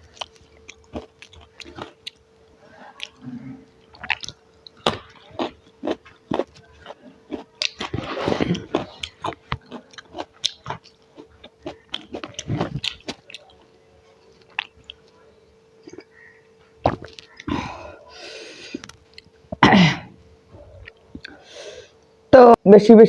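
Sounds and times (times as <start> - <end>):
chewing food: 0.0 - 19.6, 20.4 - 22.1.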